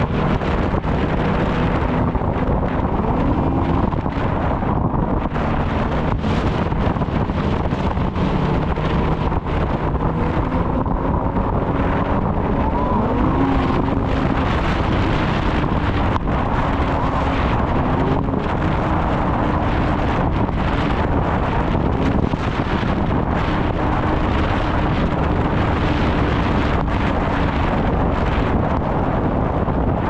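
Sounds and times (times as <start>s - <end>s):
snowmobile engine running: 0.0s - 30.0s
wind buffeting microphone: 0.0s - 30.0s.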